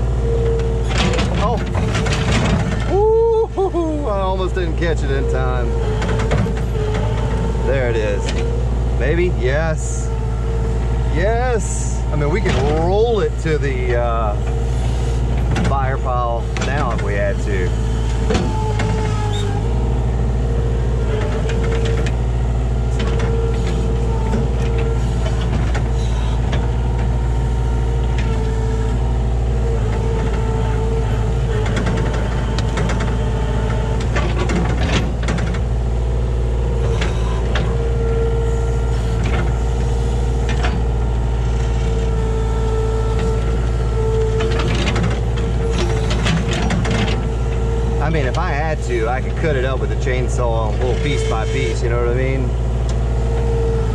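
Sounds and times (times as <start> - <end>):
excavator diesel engine running: 0.0 - 53.9
hydraulic whine: 0.0 - 53.9.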